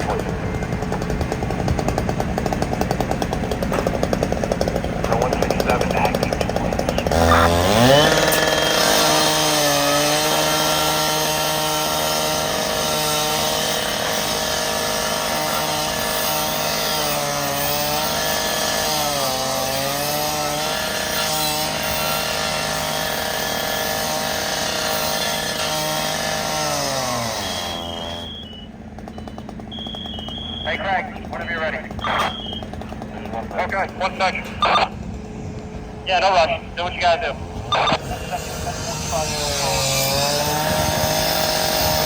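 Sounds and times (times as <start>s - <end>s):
two-stroke saw revving: 0.0s - 42.0s.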